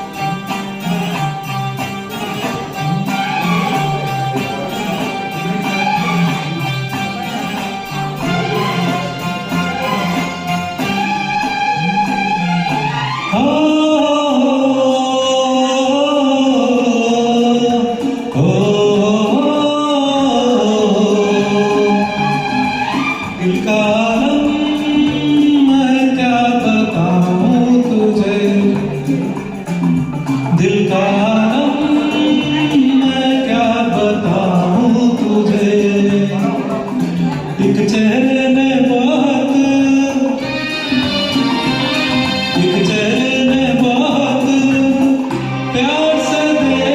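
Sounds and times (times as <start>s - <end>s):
karaoke backing track: 0.0s - 46.9s
man singing: 0.0s - 46.9s.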